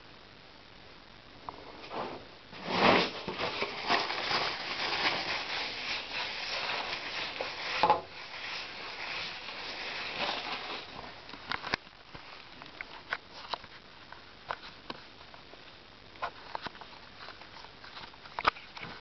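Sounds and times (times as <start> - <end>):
rubbing and rustling on camera: 1.6 - 15.4, 16.2 - 19.0.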